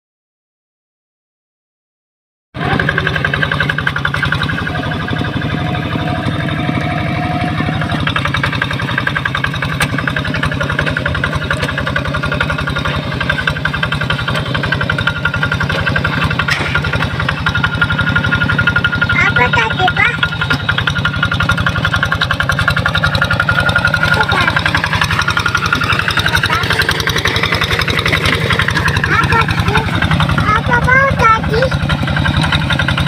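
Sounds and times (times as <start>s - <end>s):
diesel engine chugging: 2.6s - 33.0s.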